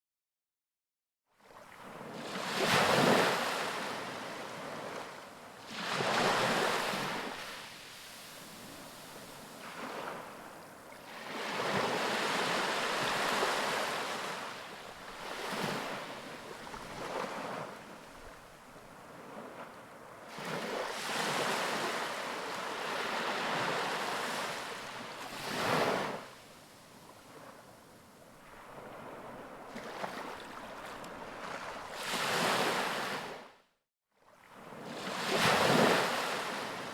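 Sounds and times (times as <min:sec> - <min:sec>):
ocean waves breaking on beach: 0:01.5 - 0:33.5, 0:34.2 - 0:36.9.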